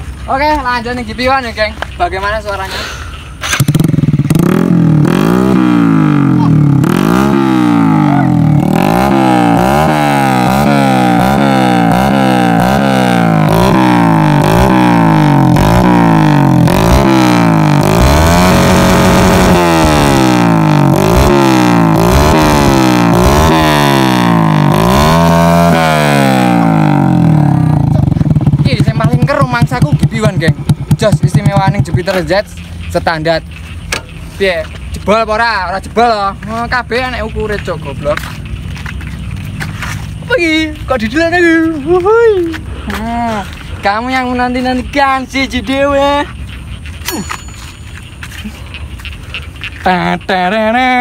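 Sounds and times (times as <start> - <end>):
motorcycle engine revving: 3.1 - 51.0.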